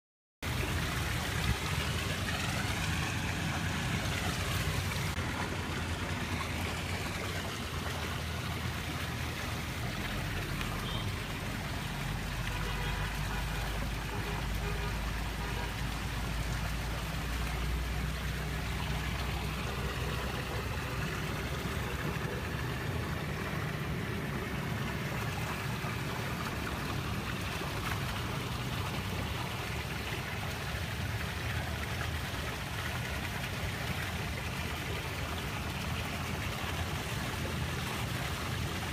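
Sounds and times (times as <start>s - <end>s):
running water: 0.4s - 38.9s.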